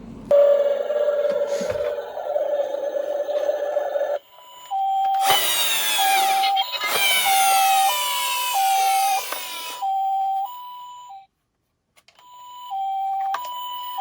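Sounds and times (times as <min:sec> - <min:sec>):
two-tone ambulance siren: 0:00.3 - 0:11.3, 0:12.2 - 0:14.0.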